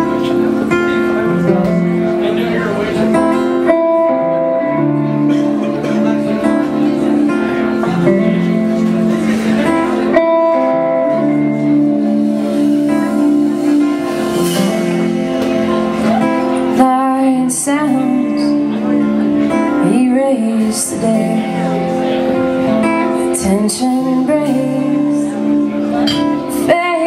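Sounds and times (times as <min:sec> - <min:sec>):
band playing: 0:00.0 - 0:27.0
strummed acoustic guitar: 0:00.0 - 0:27.0.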